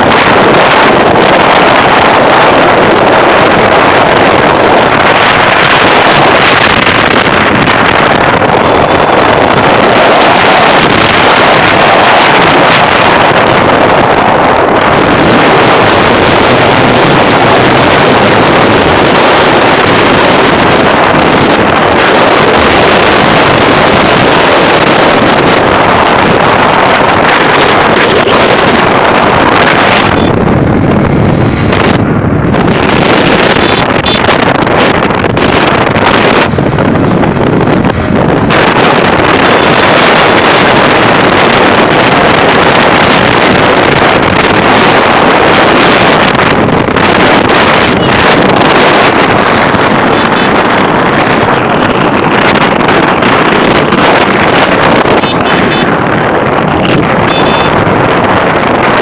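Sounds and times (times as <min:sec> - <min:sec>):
motorcycle engine running: 0:00.0 - 0:58.6
wind buffeting microphone: 0:00.0 - 0:59.0.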